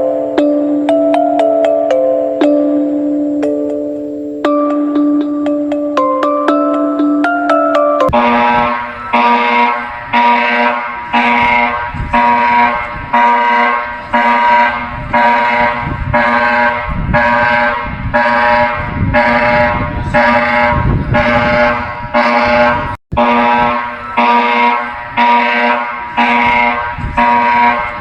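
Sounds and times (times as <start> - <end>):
emergency alarm blasts: 2.2 - 28.0.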